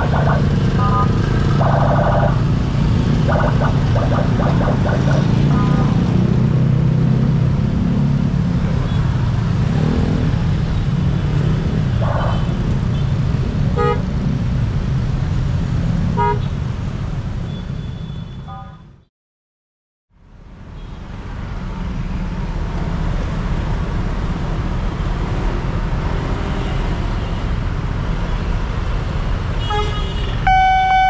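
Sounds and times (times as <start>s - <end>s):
cars and motorcycles passing: 0.0s - 18.0s, 20.8s - 31.0s.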